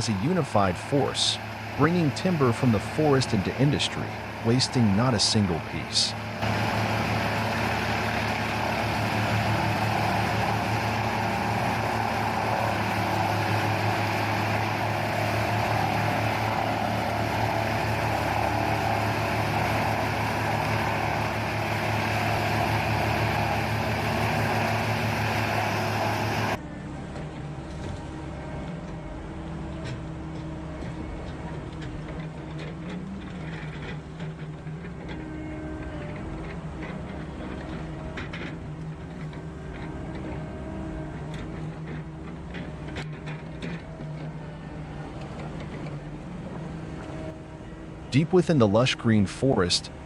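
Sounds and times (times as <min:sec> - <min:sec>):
wood chipper running: 0:00.0 - 0:48.2.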